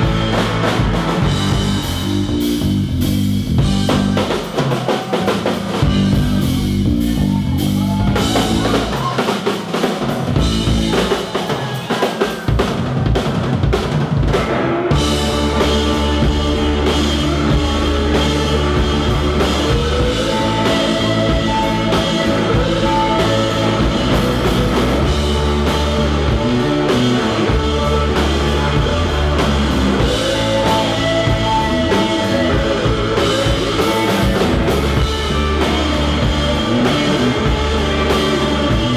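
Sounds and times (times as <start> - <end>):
steady bass line: 0.0 - 9.2, 10.1 - 11.3, 12.5 - 38.9
electric guitar: 0.0 - 11.9, 12.5 - 38.9
blues-rock band playing: 0.0 - 38.9
drum kit: 0.0 - 38.9.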